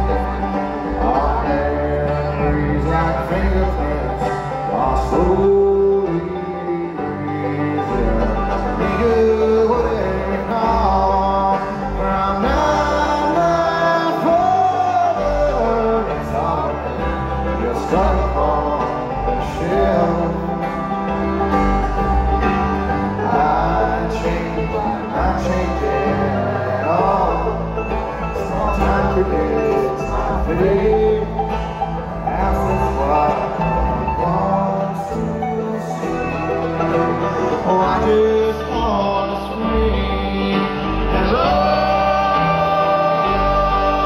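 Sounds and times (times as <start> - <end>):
acoustic guitar: 0.0 - 44.0
bass line: 0.0 - 44.0
person singing: 0.0 - 44.0
plucked strings: 0.0 - 44.0.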